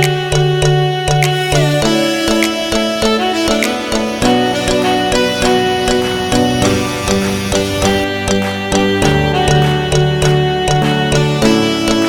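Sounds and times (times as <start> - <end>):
plucked strings over a beat: 0.0 - 12.0.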